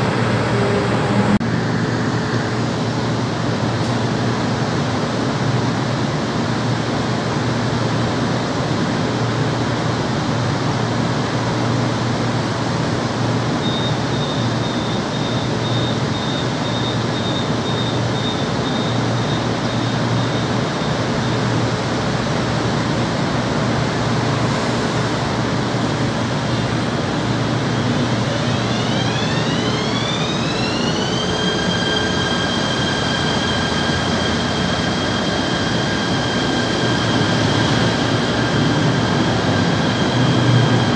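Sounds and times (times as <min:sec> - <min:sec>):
standing train humming: 0:00.0 - 0:40.9.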